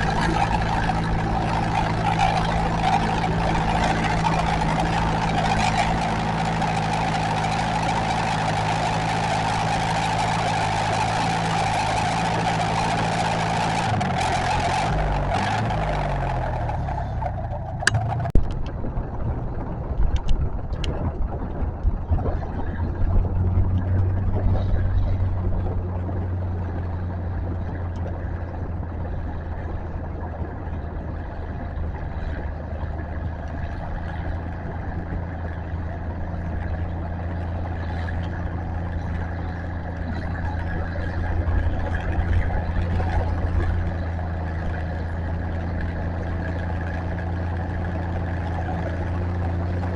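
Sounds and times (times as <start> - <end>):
tractor engine humming: 0.0 - 49.9.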